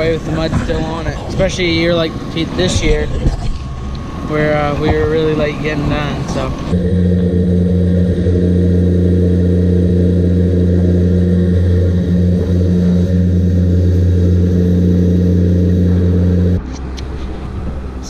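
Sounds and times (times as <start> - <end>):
machine motor humming: 0.0 - 18.0.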